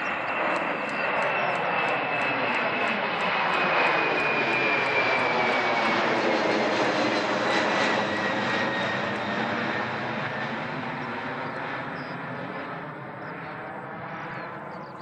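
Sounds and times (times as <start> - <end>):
high jet whine: 0.0 - 13.8
jet engine roar: 0.0 - 15.0.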